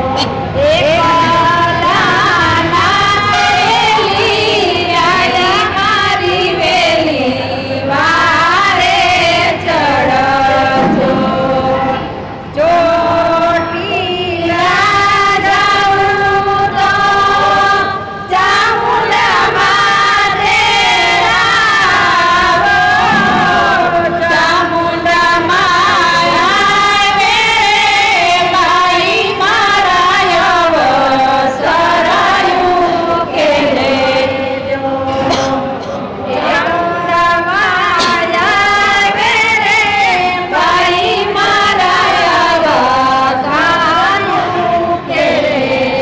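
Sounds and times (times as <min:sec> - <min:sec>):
women's chorus singing: 0:00.0 - 0:46.0.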